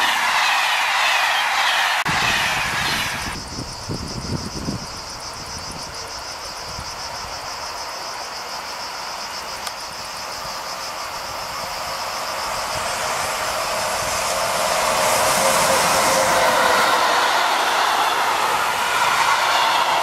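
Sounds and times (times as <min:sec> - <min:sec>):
cicadas buzzing: 0:00.0 - 0:20.0
freight train wheels rumbling: 0:00.0 - 0:20.0.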